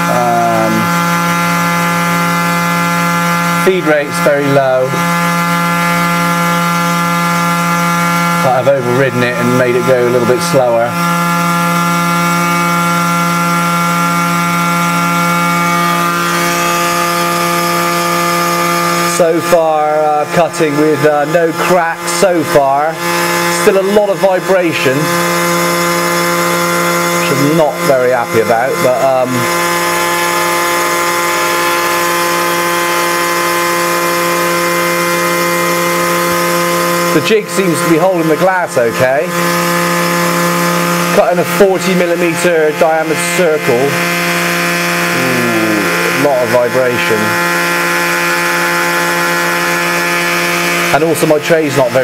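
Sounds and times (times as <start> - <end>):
milling machine whining: 0.0 - 52.0.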